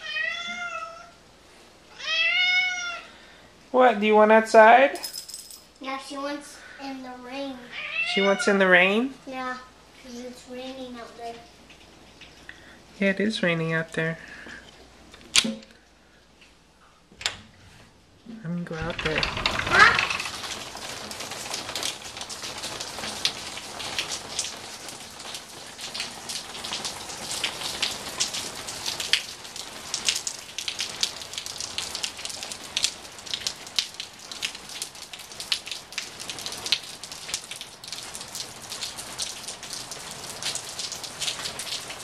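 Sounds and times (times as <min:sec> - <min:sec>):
rain falling on patio: 0:00.0 - 0:42.0
raindrops striking surfaces: 0:01.9 - 0:16.6, 0:17.2 - 0:42.0.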